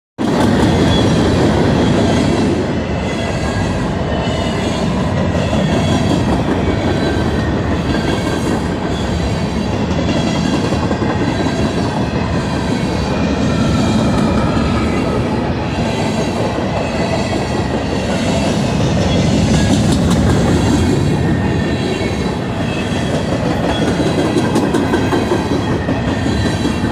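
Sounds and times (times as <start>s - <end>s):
train wheels rumbling on rails: 0.2s - 26.9s.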